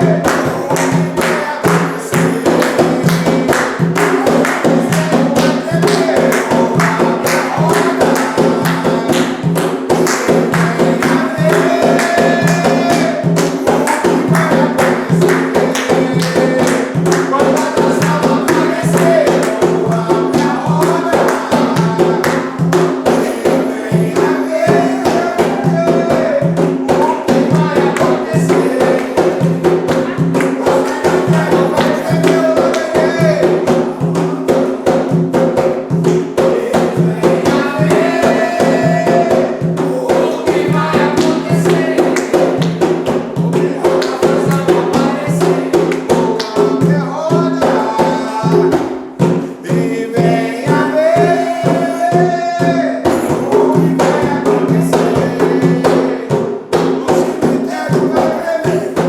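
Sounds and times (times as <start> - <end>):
jingling percussion: 0.0 - 59.0
rapid hand-drum strokes: 0.0 - 59.0
voices singing: 0.0 - 59.0.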